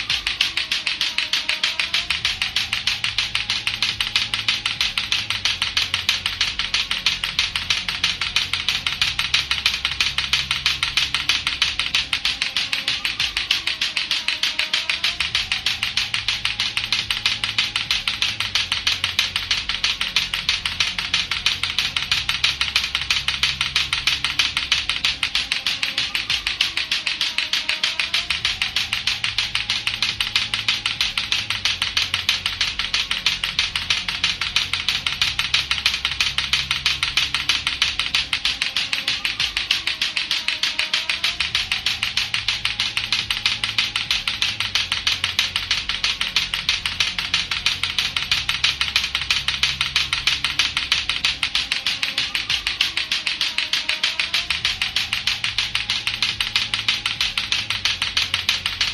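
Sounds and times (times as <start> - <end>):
clacker balls knocking together: 0.0 - 58.9
low musical backing: 0.0 - 58.9.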